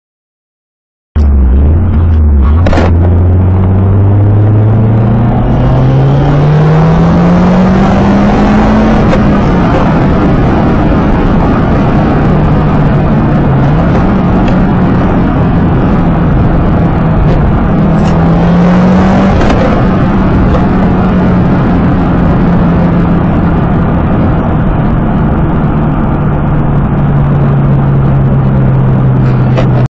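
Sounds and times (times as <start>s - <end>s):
turbocharged car engine under load: 1.2s - 29.9s.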